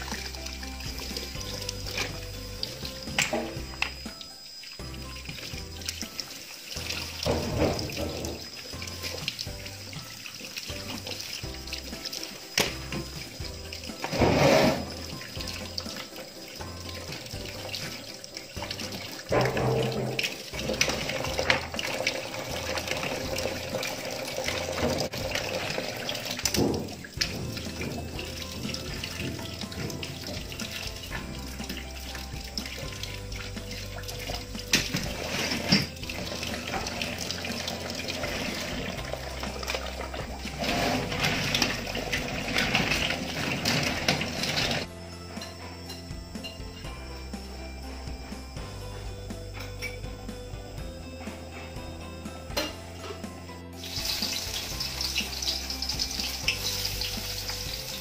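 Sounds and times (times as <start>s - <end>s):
tap water running into a sink: 0.0s - 44.9s, 53.8s - 58.0s
shells rinsed by hand: 0.0s - 50.0s, 53.8s - 58.0s.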